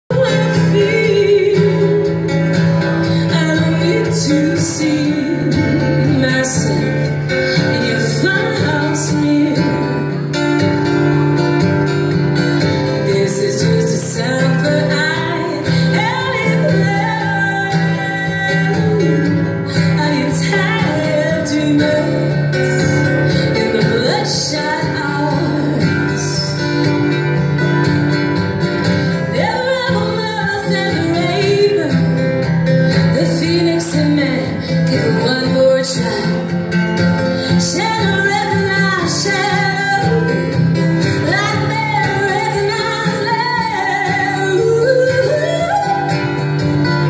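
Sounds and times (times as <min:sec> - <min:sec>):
acoustic guitar: 0:00.0 - 0:47.0
woman singing: 0:00.0 - 0:47.0.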